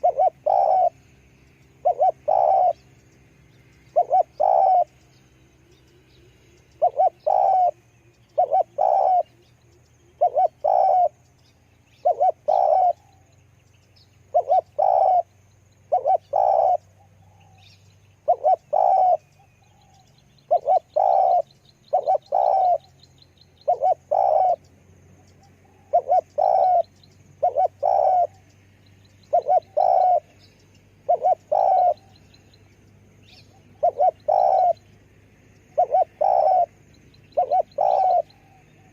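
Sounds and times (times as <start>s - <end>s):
dove cooing: 0.0s - 5.0s, 6.7s - 11.3s, 11.9s - 13.3s, 14.3s - 23.0s, 23.6s - 28.5s, 29.2s - 32.6s, 33.2s - 35.0s, 35.6s - 38.9s
faint high bird chirps: 0.0s - 38.9s.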